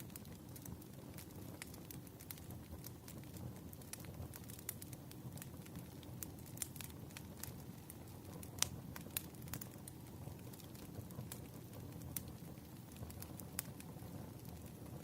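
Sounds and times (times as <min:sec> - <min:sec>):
crackles and pops of burning wood: 0:00.0 - 0:15.0
low rumble of flames: 0:00.0 - 0:15.0.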